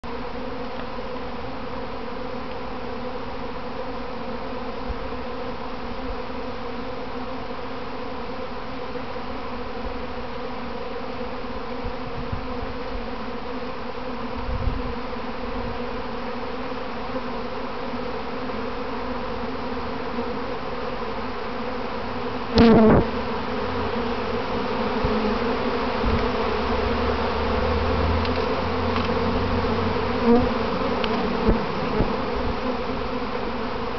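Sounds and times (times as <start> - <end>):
bee swarm buzzing: 0.0 - 33.9
single bee buzz close by: 0.0 - 33.9.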